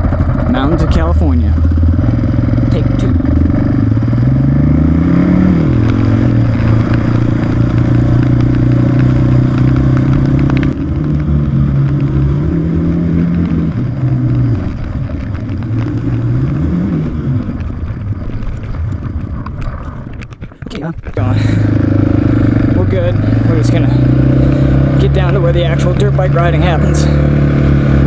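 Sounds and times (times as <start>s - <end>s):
dirt bike engine idling: 0.0s - 12.5s, 13.2s - 28.0s.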